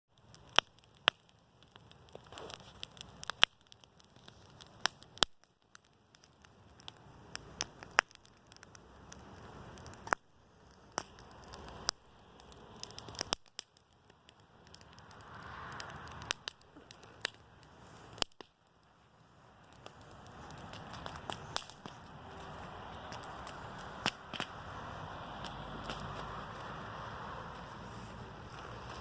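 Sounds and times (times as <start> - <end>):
campfire crackling: 0.1 - 29.0.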